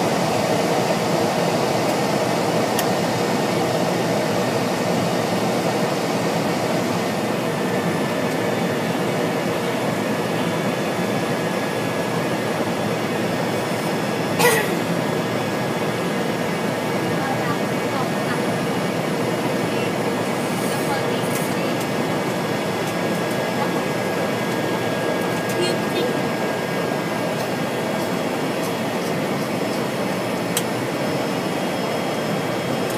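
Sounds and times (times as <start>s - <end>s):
turboprop engine running: 0.0s - 32.9s.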